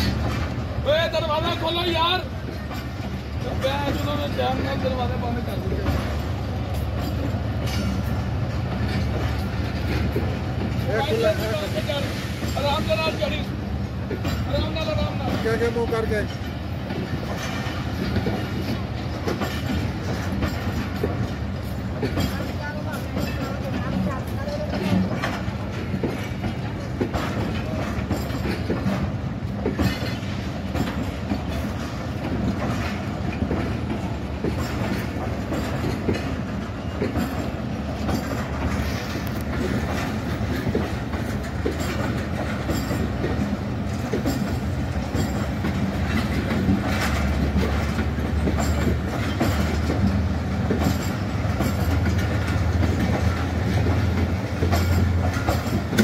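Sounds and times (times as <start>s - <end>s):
train rumble: 0.0s - 56.0s
wheels clacking over rail joints: 0.0s - 56.0s.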